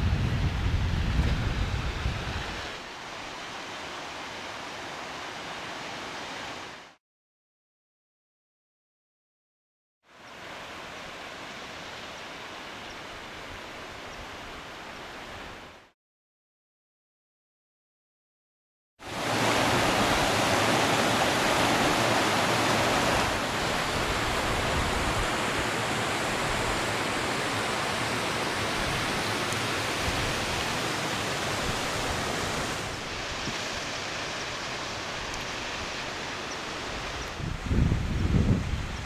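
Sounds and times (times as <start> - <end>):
rushing mountain stream: 0.0 - 7.0, 10.1 - 15.9, 19.0 - 39.0.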